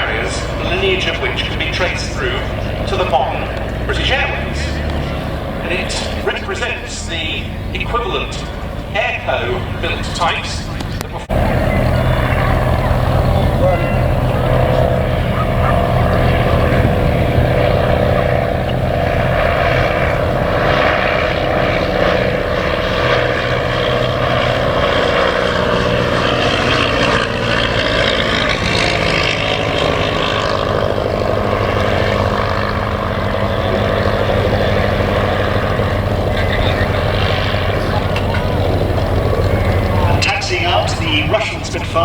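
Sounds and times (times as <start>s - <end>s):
propeller aircraft engine running: 0.0s - 42.0s.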